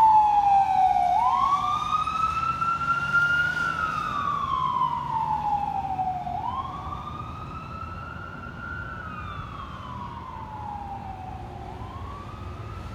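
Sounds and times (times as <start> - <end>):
fire engine siren wailing: 0.0 - 12.9.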